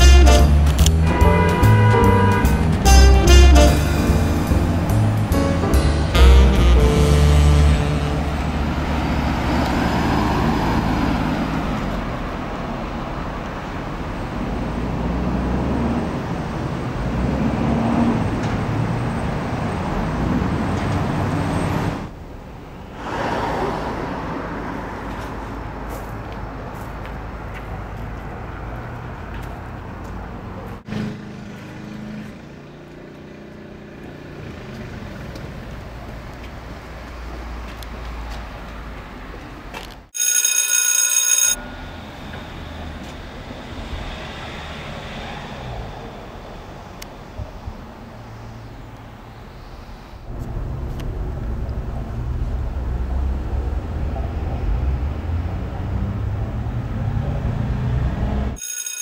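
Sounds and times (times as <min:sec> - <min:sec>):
cars passing: 0:00.0 - 0:59.0
street background: 0:00.0 - 0:59.0.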